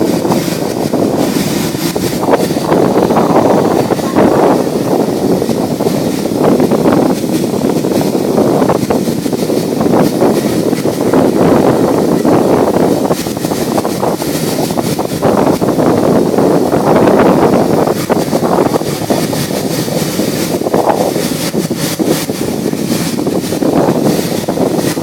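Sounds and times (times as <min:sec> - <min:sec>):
diesel locomotive engine running: 0:00.0 - 0:25.0
wind buffeting microphone: 0:00.0 - 0:25.0.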